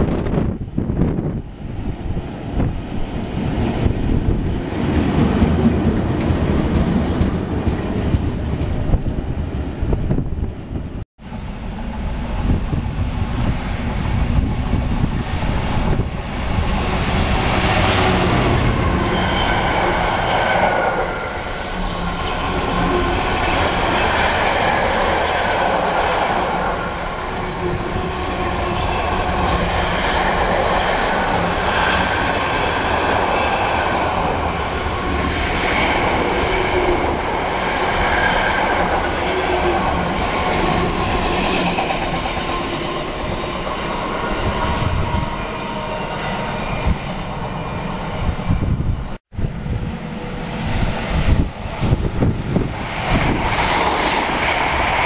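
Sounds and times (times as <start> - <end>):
diesel locomotive passing: 0.0 - 55.0
electric locomotive passing: 0.0 - 55.0.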